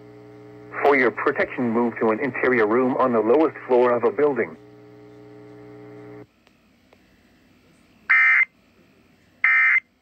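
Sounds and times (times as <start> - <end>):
steady low buzz: 0.0 - 9.2.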